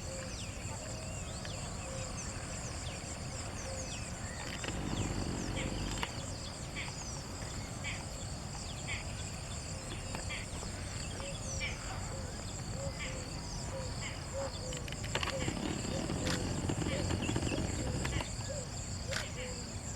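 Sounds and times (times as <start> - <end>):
insects trilling: 0.0 - 19.9.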